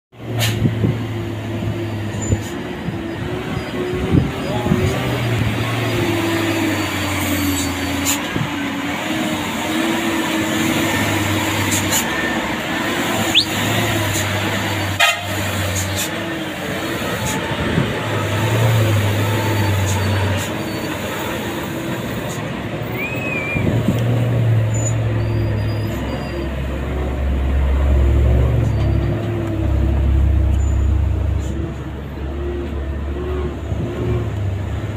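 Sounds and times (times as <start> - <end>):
diesel truck engines droning: 0.2 - 34.9.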